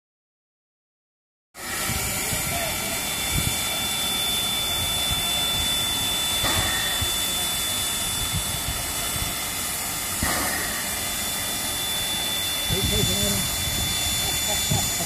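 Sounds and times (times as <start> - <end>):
steam locomotive hissing: 1.6 - 15.0
thin high tone: 1.8 - 15.0.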